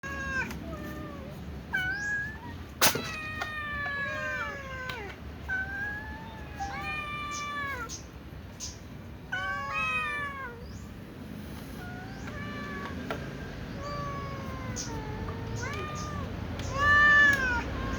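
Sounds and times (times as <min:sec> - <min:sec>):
cat meowing: 0:00.0 - 0:08.0, 0:09.3 - 0:10.9, 0:11.7 - 0:17.9.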